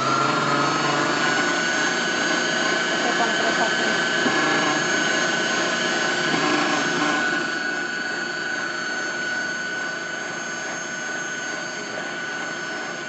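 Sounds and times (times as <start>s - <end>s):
stand mixer whipping paste: 0.0s - 13.0s.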